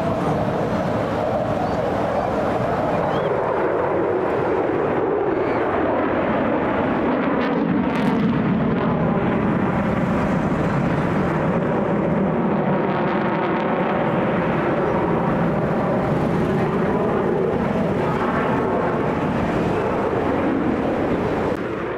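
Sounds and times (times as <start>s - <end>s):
jet engine roar: 0.0s - 21.9s.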